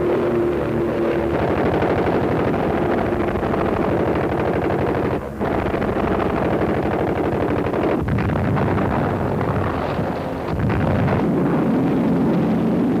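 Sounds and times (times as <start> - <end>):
explosion rumble: 0.8 - 13.0
gunfire crackle: 1.3 - 12.6.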